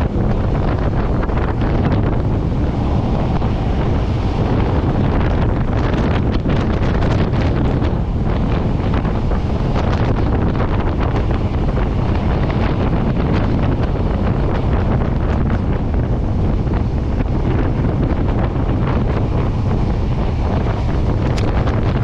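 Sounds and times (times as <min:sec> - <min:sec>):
moving train running: 0:00.0 - 0:22.0
wind on microphone: 0:00.0 - 0:22.0.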